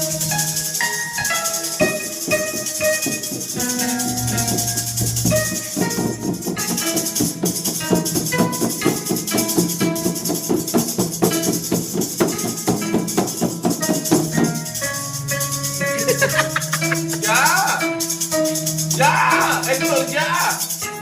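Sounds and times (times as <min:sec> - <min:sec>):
music with shaker and drums: 0:00.0 - 0:21.0.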